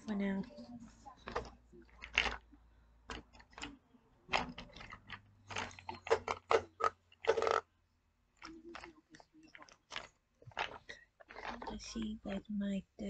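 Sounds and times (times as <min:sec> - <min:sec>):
pencils clicking and clattering: 0:01.2 - 0:07.6, 0:08.4 - 0:12.4.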